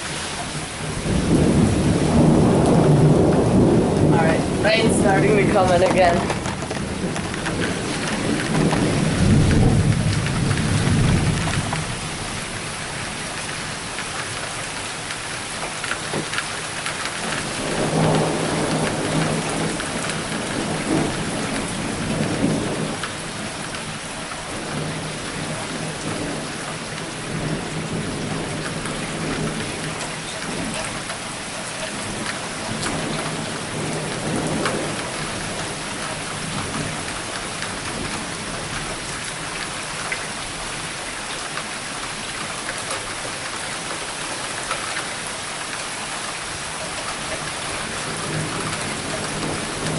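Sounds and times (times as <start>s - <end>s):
thunder rumbling: 0.0s - 40.9s, 47.2s - 49.9s
steady rain falling: 0.0s - 49.9s.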